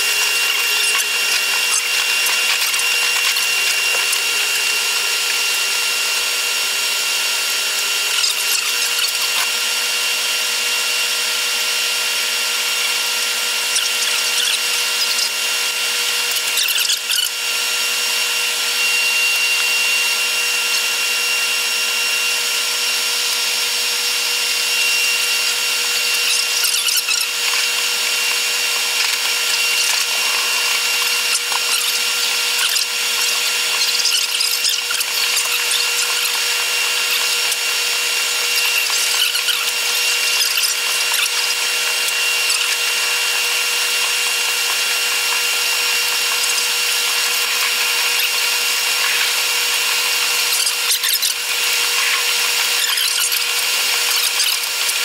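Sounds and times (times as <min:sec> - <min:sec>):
high-pitched whir with tones: 0:00.0 - 0:55.0.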